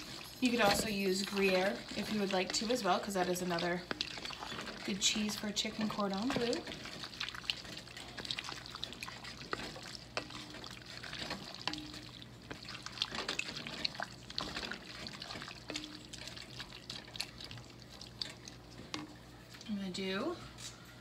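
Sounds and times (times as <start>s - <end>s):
sticky squelching of stirred pasta: 0.0s - 19.8s.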